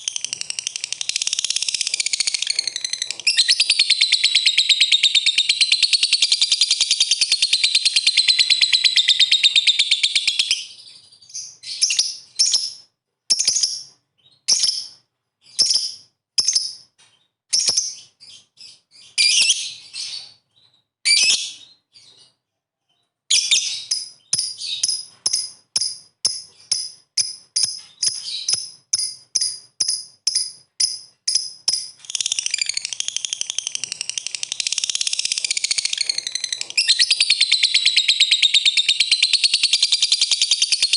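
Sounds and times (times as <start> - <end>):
lovebird chattering and chirping: 0.0 - 16.9, 23.3 - 40.9.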